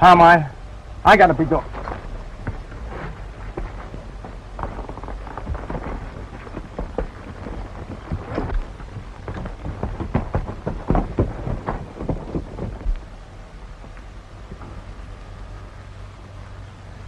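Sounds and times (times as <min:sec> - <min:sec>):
background hiss: 0:00.0 - 0:17.0
low hum: 0:00.0 - 0:17.0
horse hooves galloping: 0:01.1 - 0:17.0.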